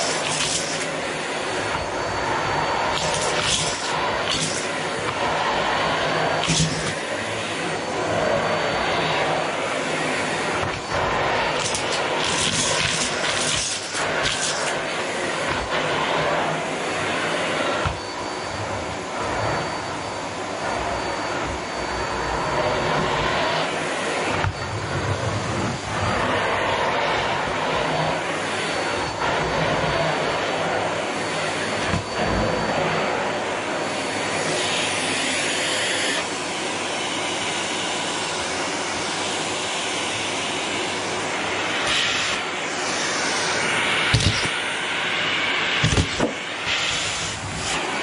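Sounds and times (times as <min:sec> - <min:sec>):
vacuum cleaner running: 0:00.0 - 0:48.0
vacuum nozzle over carpet: 0:00.0 - 0:48.0.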